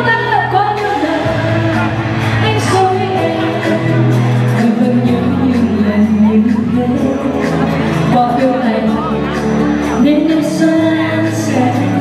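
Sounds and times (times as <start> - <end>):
live pop band: 0.0 - 12.0
sustained bass notes: 0.0 - 12.0
woman singing into microphone: 0.0 - 12.0.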